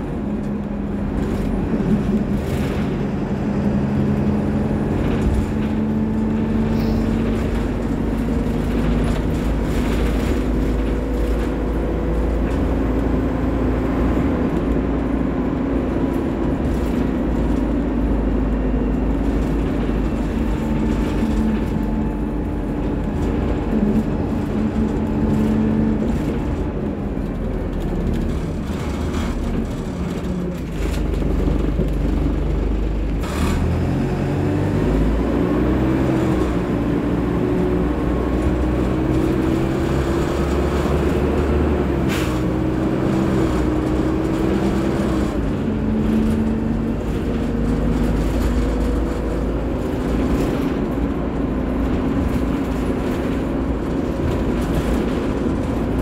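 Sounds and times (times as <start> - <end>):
bus body rattling: 0.0 - 56.0
bus engine droning: 0.0 - 56.0.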